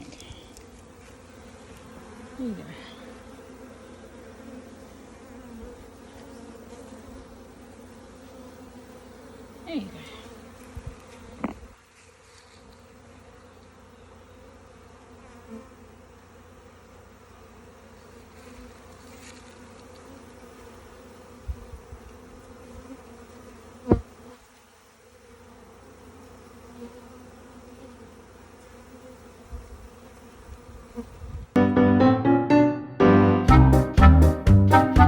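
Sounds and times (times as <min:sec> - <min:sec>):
honeybees buzzing: 0:00.0 - 0:32.1, 0:33.5 - 0:35.0.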